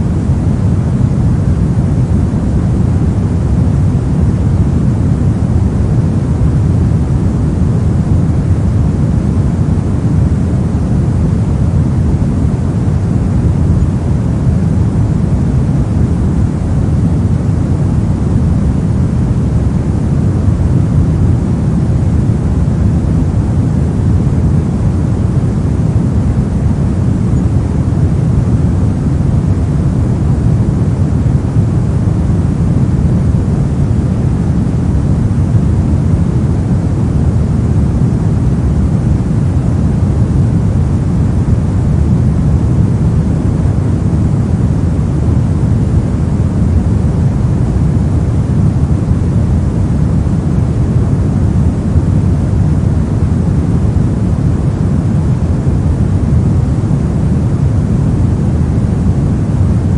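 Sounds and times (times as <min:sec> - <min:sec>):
pink noise hiss: 0:00.0 - 0:59.8.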